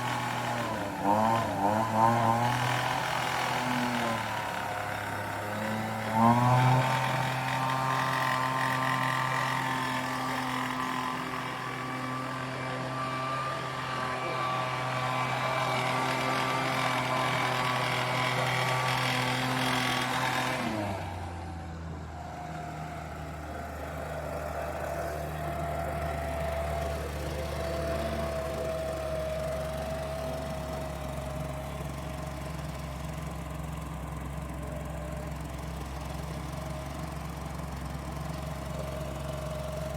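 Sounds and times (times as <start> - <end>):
leaf blower engine revving and idling: 0.0 - 39.9.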